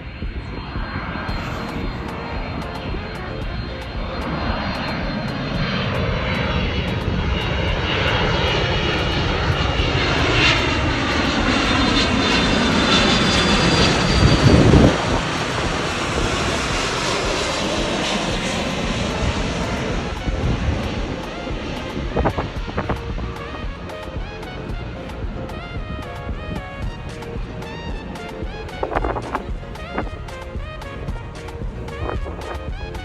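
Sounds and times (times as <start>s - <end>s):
jet airliner engines whining: 0.0s - 33.0s.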